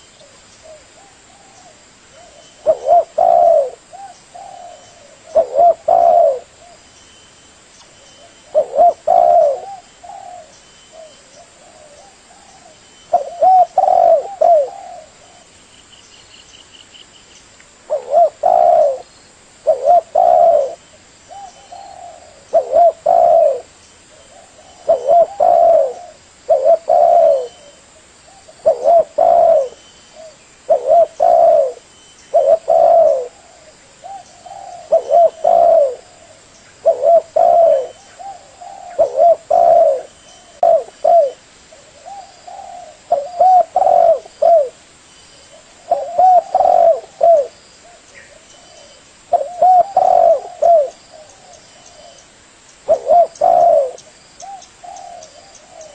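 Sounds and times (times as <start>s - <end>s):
dove cooing: 0.0s - 6.9s, 8.2s - 15.5s, 17.9s - 44.8s, 45.5s - 52.2s, 52.8s - 55.9s.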